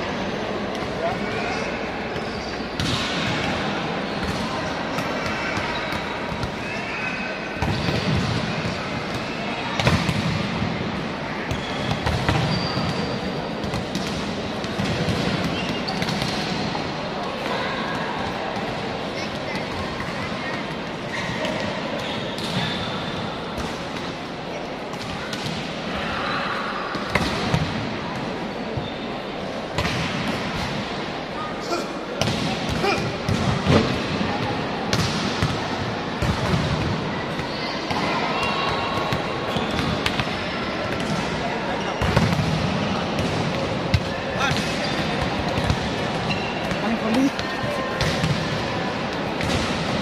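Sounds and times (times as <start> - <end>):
busy background din: 0.0 - 50.0
players' voices: 0.0 - 50.0
sports hall noise: 0.0 - 50.0
volleyballs hit and bouncing: 0.6 - 6.9, 7.5 - 26.0, 26.9 - 29.0, 29.6 - 31.4, 32.1 - 50.0.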